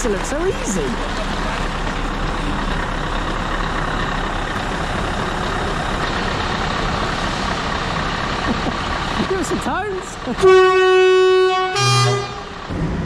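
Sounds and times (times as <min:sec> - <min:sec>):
diesel engine running at low revs: 0:00.0 - 0:13.0.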